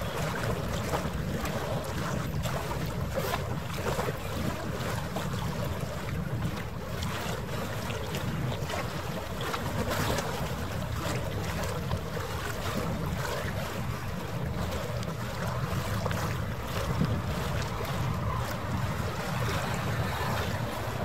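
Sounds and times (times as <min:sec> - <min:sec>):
water washing: 0:00.0 - 0:21.0
wind buffeting microphone: 0:00.0 - 0:21.0.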